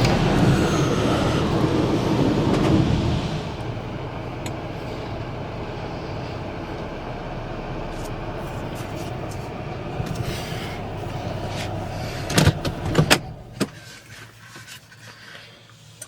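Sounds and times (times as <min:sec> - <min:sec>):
car engine rumbling: 0:00.0 - 0:15.2.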